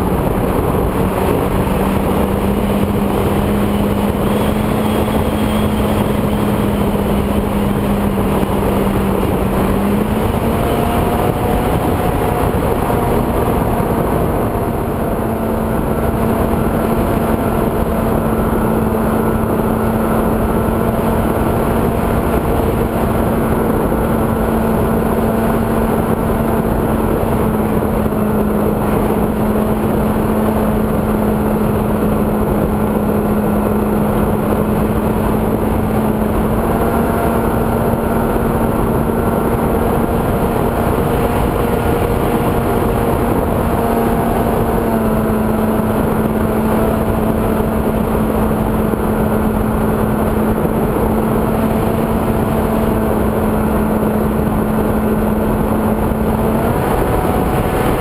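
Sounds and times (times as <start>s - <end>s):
model plane motor hum: 0.0s - 58.0s
rush of airflow: 0.0s - 58.0s.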